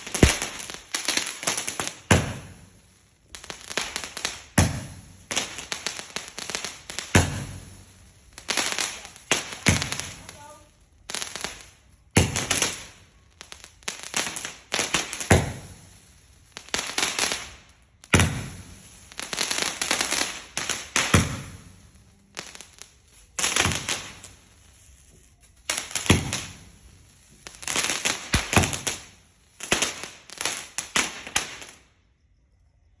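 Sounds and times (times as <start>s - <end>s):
fireworks bangs: 0.0s - 16.0s, 16.6s - 31.8s
fireworks hiss: 0.0s - 31.9s.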